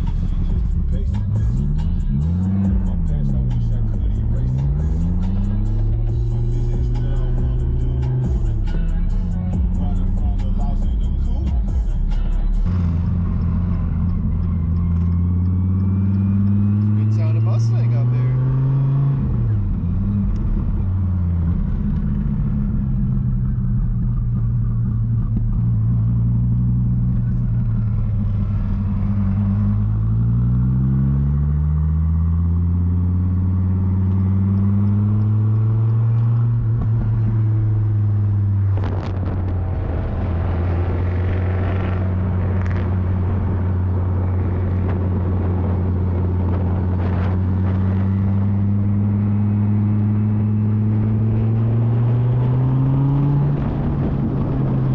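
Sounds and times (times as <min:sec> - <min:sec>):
car engine while driving: 0:00.0 - 0:54.9.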